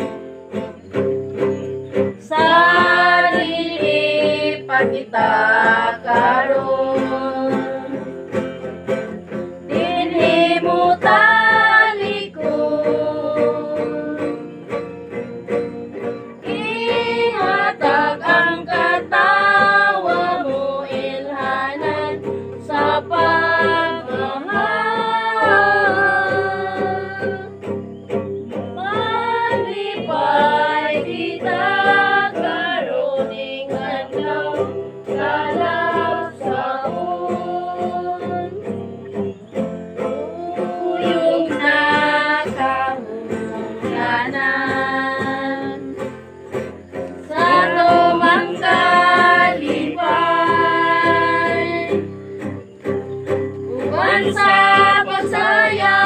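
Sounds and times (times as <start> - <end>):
group of people singing: 0.0 - 0.2, 2.0 - 27.8, 28.5 - 56.0
guitar playing: 0.0 - 56.0.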